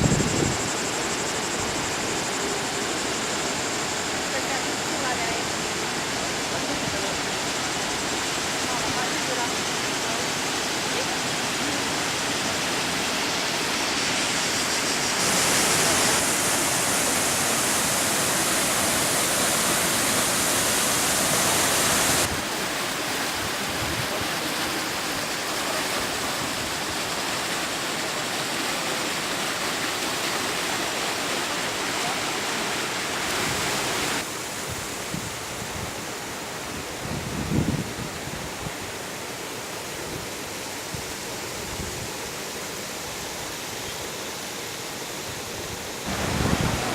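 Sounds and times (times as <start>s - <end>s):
waterfall rushing: 0.7s - 37.0s, 38.3s - 46.9s.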